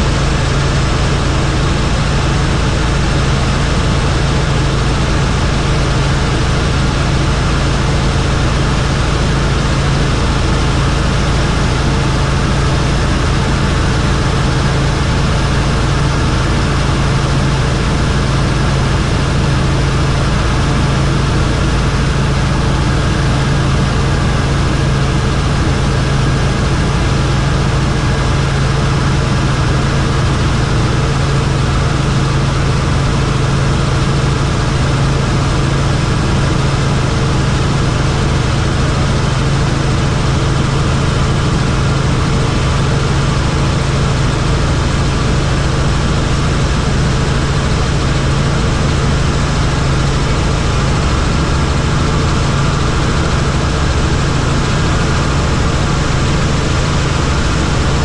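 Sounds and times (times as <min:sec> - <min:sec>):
helicopter engine and rotor: 0:00.0 - 0:58.0.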